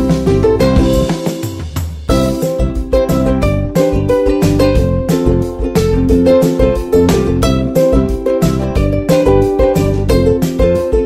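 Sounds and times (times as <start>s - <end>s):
plucked guitar: 0.0s - 11.0s
steady beat: 0.0s - 11.0s.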